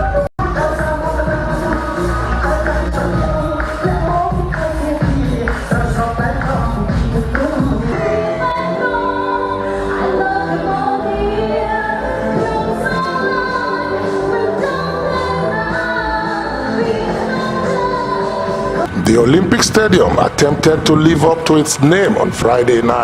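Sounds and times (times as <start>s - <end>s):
pop song with female singer: 0.0s - 18.9s.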